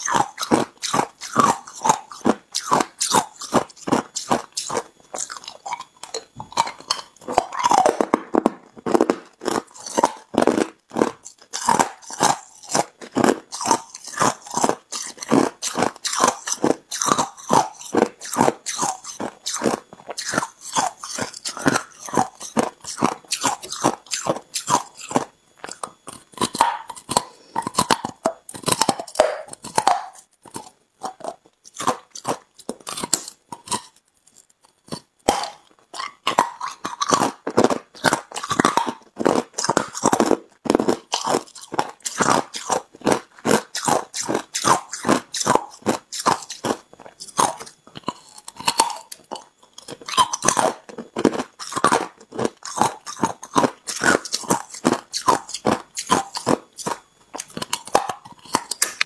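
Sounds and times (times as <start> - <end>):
ice crunching being chewed: 0.0 - 59.0.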